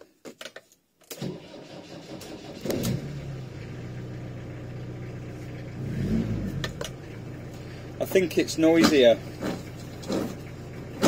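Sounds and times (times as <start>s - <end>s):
diesel engine idling: 1.6s - 11.0s.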